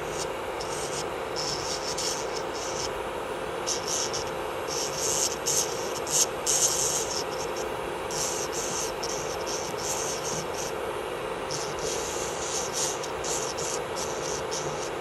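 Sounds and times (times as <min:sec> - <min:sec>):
drill bit grinding nail polish: 0:00.0 - 0:03.0, 0:03.6 - 0:10.8, 0:11.4 - 0:15.0
electric nail drill humming: 0:00.0 - 0:15.0.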